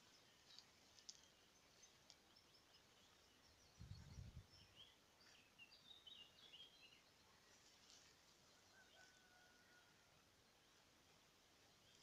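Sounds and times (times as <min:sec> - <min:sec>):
songbirds chirping and warbling: 0:00.0 - 0:12.0.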